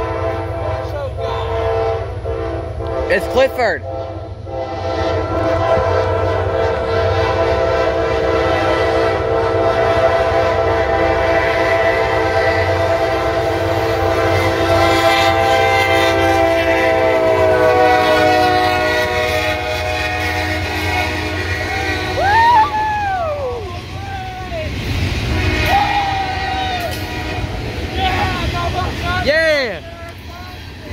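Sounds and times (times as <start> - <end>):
locomotive air horn blast: 0.0 - 22.6, 24.8 - 28.6
train rumbling: 0.0 - 30.9.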